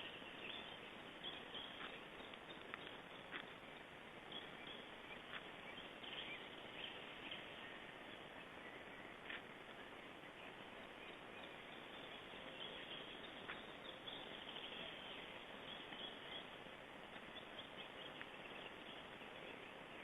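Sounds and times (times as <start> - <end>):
faint outdoor hiss: 0.0 - 20.0
small birds chirping: 0.0 - 20.0.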